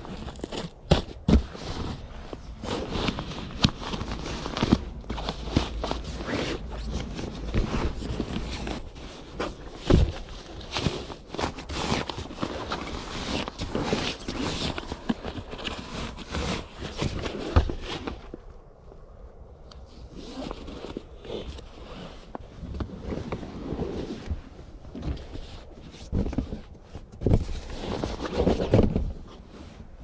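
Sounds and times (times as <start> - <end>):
fabric rustling and crinkling: 0.0 - 18.8, 19.8 - 30.0.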